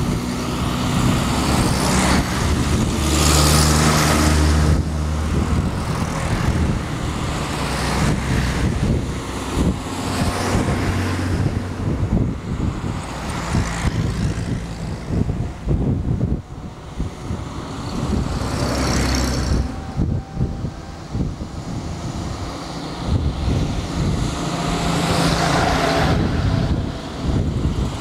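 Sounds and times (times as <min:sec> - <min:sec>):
military vehicle engines passing: 0:00.0 - 0:28.0.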